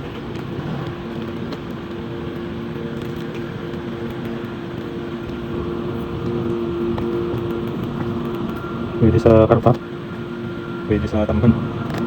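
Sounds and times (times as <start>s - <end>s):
motor humming: 0.1s - 12.0s.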